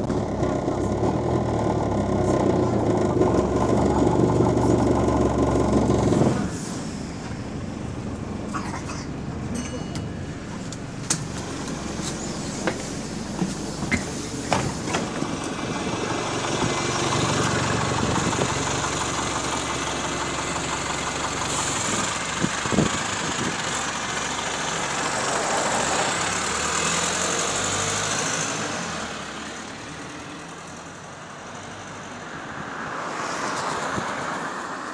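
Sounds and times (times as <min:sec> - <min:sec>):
bus engine idling: 0:00.0 - 0:32.9.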